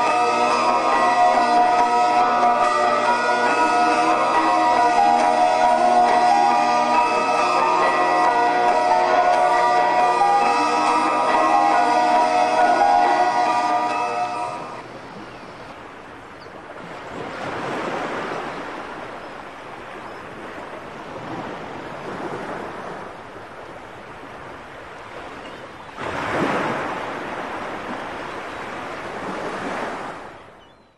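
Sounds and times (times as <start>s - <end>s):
waves washing on shore: 0.0s - 30.6s.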